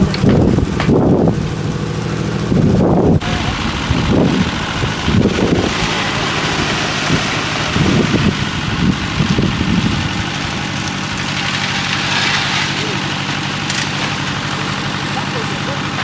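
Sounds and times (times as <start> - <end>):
concrete mixer engine running: 0.0 - 16.0.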